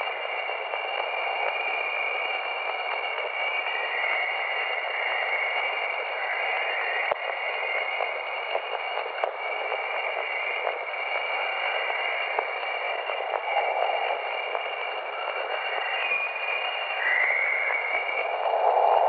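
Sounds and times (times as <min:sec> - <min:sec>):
held whistling tones: 0:00.0 - 0:19.0
static-like hiss: 0:00.0 - 0:19.0.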